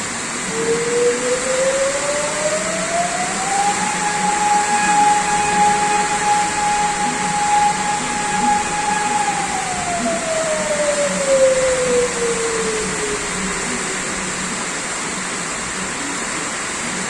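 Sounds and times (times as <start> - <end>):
warning siren: 0.0 - 15.4
storm rushing noise: 0.0 - 16.0.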